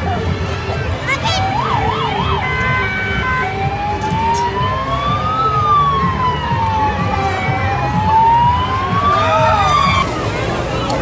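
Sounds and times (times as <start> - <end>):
emergency vehicle siren: 1.2 - 11.0.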